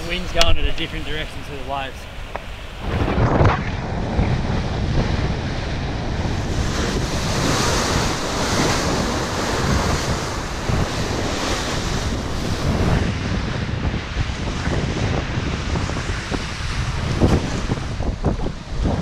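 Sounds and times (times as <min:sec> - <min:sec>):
sea waves rushing: 0:00.0 - 0:19.0
strong wind on microphone: 0:00.0 - 0:19.0.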